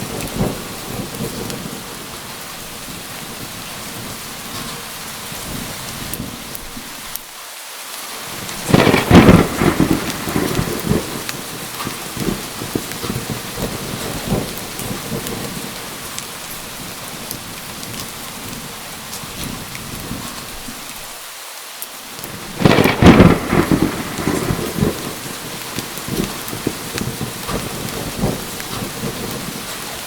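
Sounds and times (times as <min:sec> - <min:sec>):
thunderclap with rolling rumble: 0:00.0 - 0:06.8, 0:08.4 - 0:20.8, 0:22.2 - 0:30.0
steady rain falling: 0:00.0 - 0:30.0.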